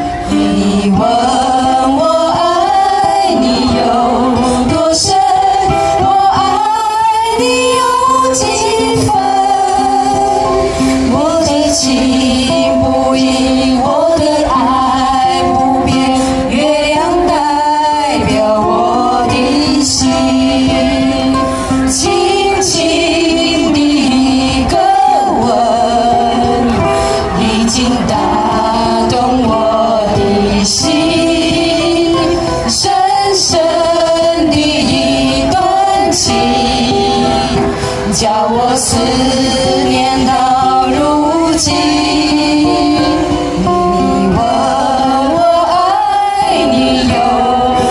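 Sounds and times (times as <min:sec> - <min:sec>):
ukulele: 0:00.0 - 0:47.9
woman and man singing: 0:00.0 - 0:47.9.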